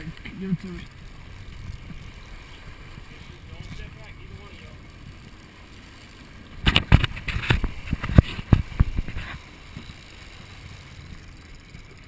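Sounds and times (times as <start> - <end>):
rush of wind and water: 0.0 - 12.0.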